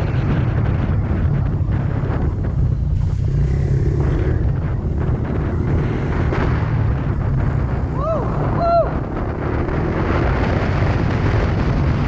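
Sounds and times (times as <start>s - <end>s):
motorbike engine running: 0.0s - 12.0s
wind buffeting microphone: 0.0s - 12.0s.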